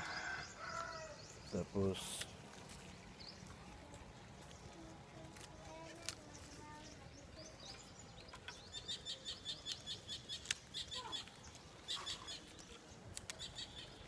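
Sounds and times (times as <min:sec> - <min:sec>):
small bird chirping: 0:00.4 - 0:14.0.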